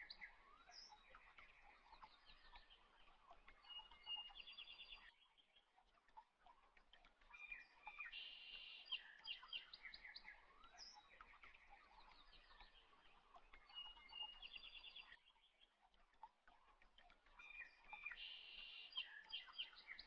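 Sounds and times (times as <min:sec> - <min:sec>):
small birds chirping and trilling: 0:00.0 - 0:20.0.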